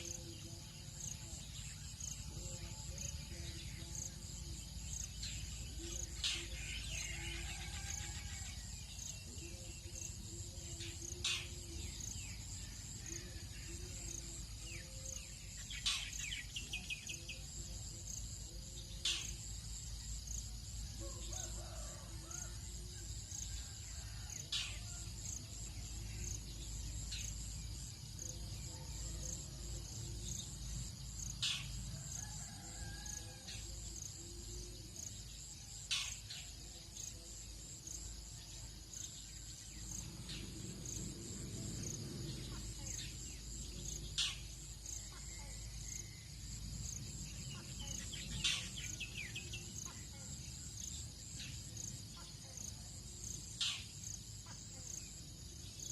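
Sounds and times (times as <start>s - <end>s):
birds chirping and trilling: 0.0s - 22.5s, 23.3s - 34.6s, 39.0s - 46.2s, 46.8s - 55.0s
insects buzzing: 0.0s - 55.9s.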